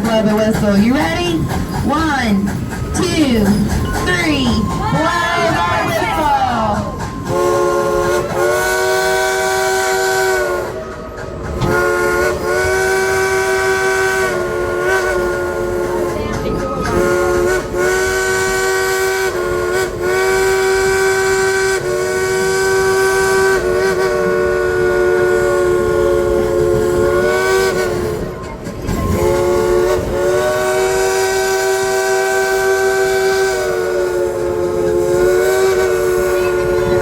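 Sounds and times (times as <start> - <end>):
steam locomotive whistle chord: 4.4 - 16.1, 16.8 - 28.2, 29.1 - 37.0.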